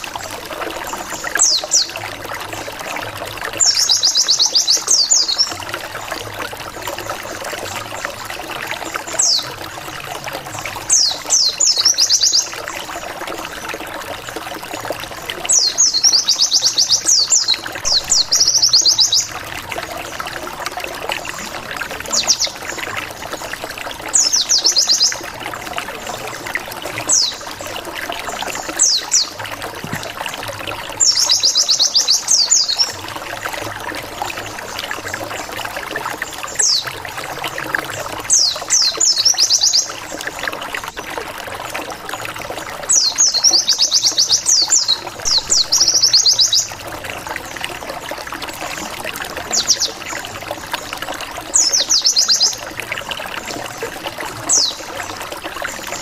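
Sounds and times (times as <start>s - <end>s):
trickling water: 0.0s - 56.0s.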